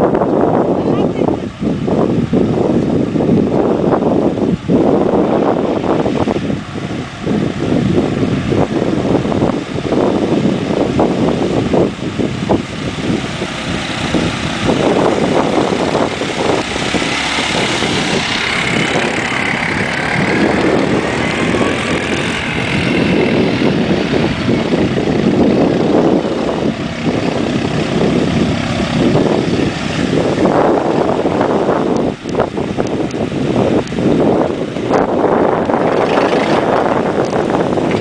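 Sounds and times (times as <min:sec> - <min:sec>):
atv engines whining: 0:00.0 - 0:38.0
wind on microphone: 0:00.0 - 0:38.0.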